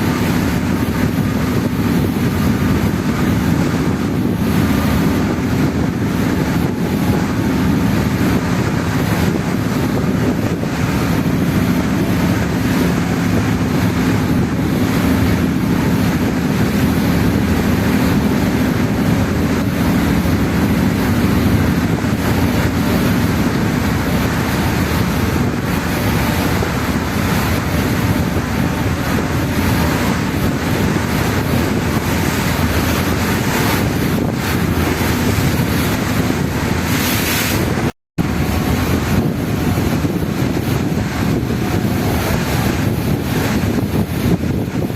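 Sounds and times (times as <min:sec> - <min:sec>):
ferry engine droning: 0:00.0 - 0:44.9
water washing along hull: 0:00.0 - 0:44.9
wind buffeting microphone: 0:00.0 - 0:44.9.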